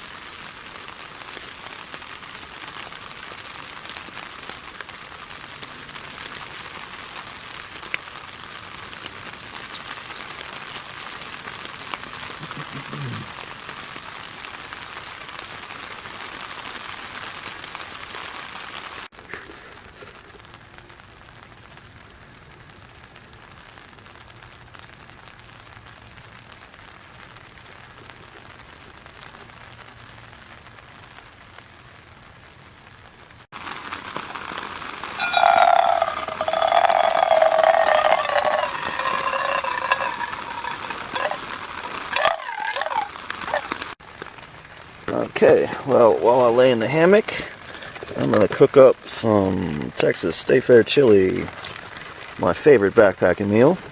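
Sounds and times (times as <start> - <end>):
steady rain: 0.0 - 53.9.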